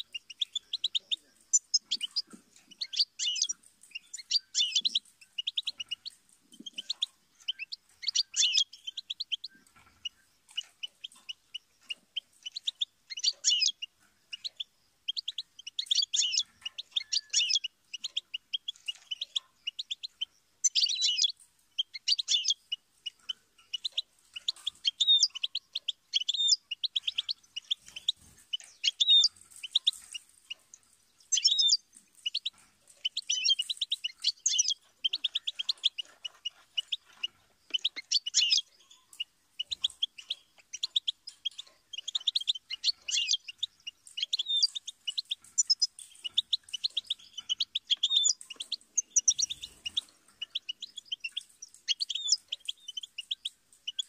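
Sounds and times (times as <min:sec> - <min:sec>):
goldfinch singing: 0:00.0 - 0:54.0.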